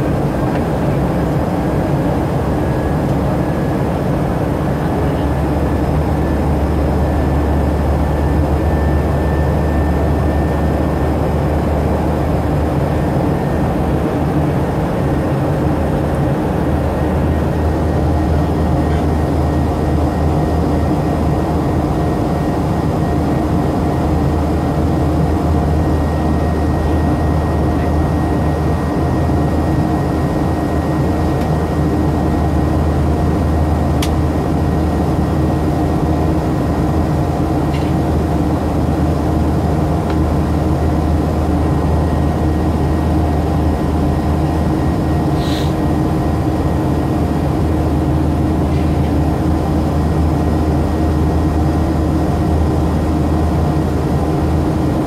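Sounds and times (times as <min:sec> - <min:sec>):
jet airliner cabin drone: 0:00.0 - 0:55.0.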